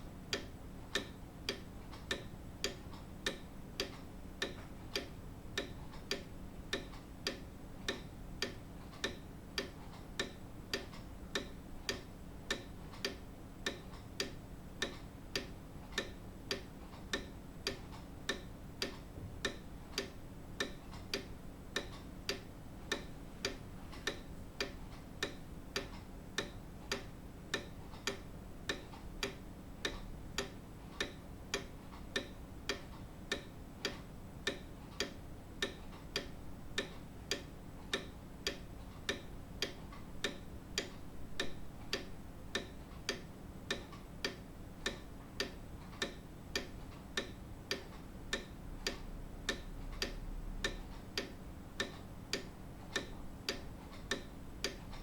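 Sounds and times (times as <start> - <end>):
grandfather clock ticking: 0.0 - 55.0.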